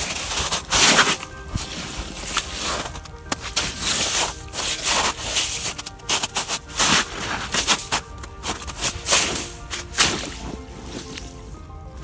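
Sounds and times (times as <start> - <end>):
footsteps crunching in slush: 0.0 - 11.8
background music: 0.0 - 12.0.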